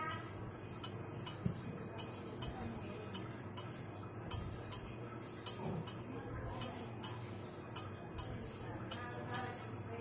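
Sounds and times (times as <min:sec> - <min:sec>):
wall clock ticking: 0:00.0 - 0:10.0.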